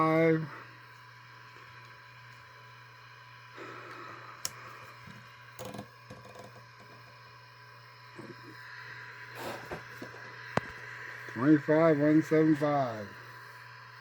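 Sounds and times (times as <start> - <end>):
low electrical hum and hiss: 0.0 - 14.0.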